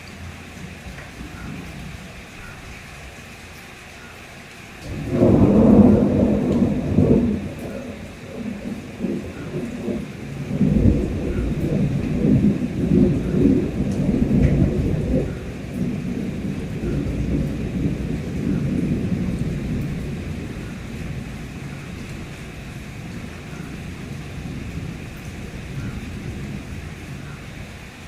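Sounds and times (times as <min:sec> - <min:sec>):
rain: 0:00.0 - 0:28.0
rolling thunder: 0:04.8 - 0:27.9.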